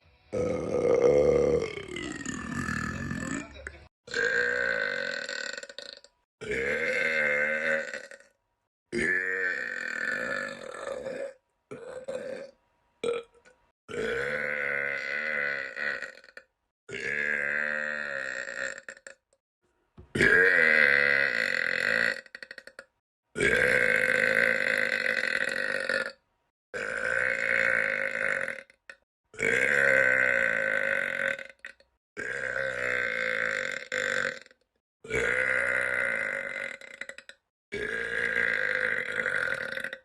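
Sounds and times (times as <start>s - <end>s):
boy belching: 0.3s - 3.5s, 4.1s - 13.3s, 13.9s - 19.3s, 20.2s - 26.2s, 26.8s - 40.0s.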